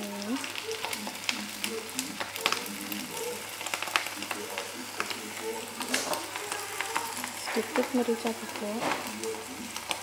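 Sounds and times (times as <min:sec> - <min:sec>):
noodles sizzling in a wok: 0:00.0 - 0:10.0.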